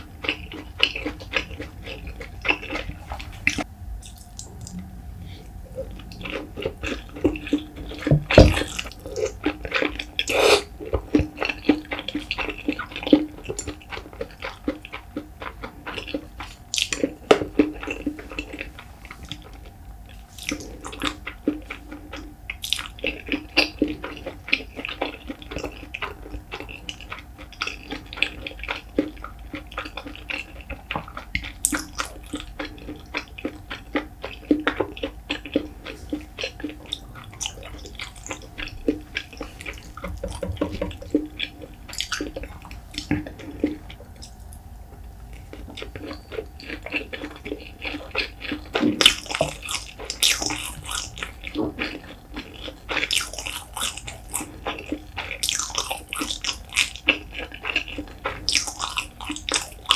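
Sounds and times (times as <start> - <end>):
wet chewing and lip smacking: 0.0 - 59.9.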